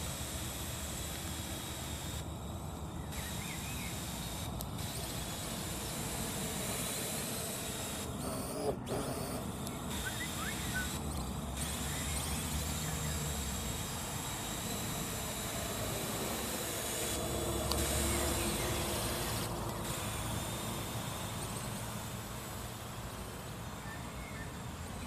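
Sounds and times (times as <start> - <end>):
drone rotors buzzing: 0.0 - 25.0.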